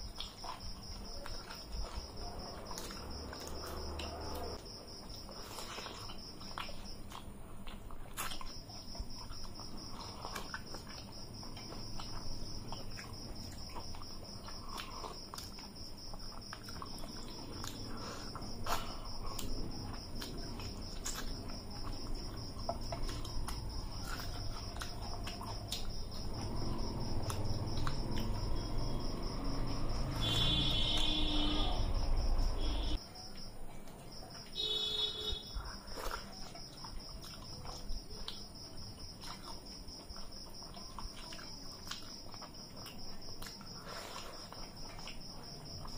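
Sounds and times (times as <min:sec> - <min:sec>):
high insect trill: 0:00.0 - 0:07.1, 0:08.2 - 0:45.9.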